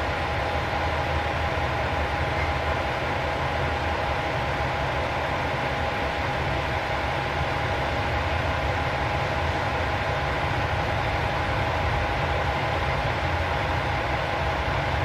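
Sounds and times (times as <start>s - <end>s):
diesel railcar engine idling: 0.0s - 15.0s
steady high whine: 0.0s - 15.0s.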